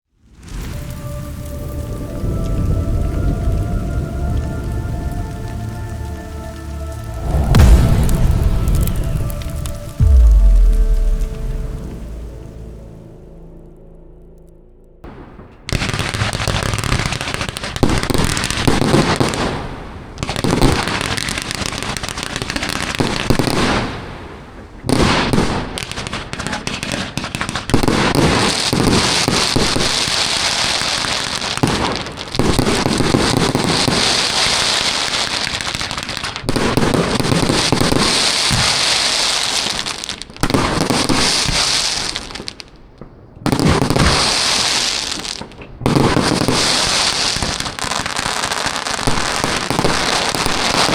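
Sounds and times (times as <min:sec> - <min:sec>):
high fireworks crackle: 0:00.1 - 0:13.6, 0:15.1 - 0:50.9
fireworks volleys: 0:06.2 - 0:12.7, 0:15.1 - 0:42.8, 0:43.4 - 0:50.9.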